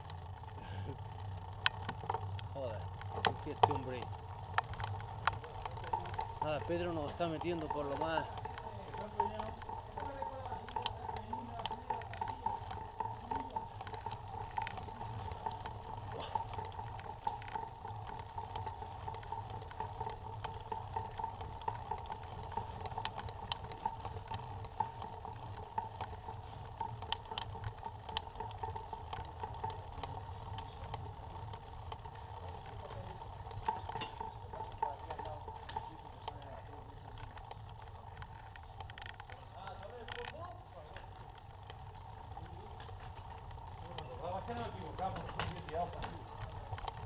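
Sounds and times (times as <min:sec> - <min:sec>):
bike rattles and clicks: 0:00.0 - 0:47.0
bike tyres rolling on pavement: 0:00.0 - 0:47.0.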